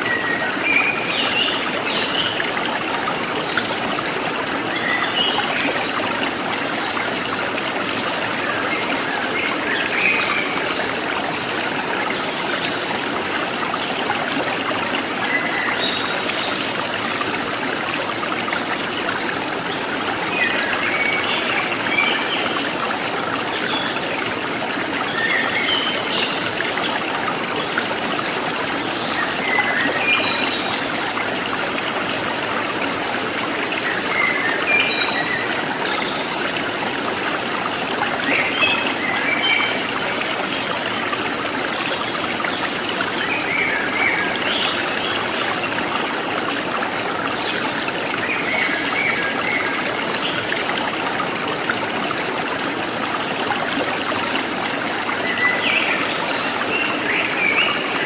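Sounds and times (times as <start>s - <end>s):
stream trickling and gurgling: 0.0s - 58.0s.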